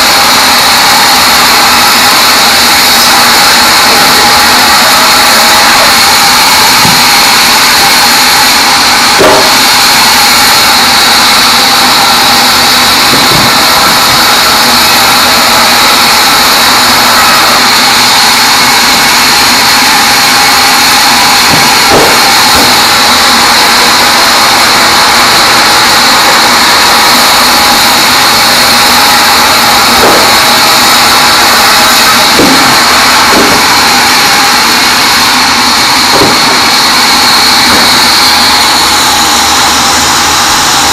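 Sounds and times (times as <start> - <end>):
band saw blade whining: 0.0 - 40.9.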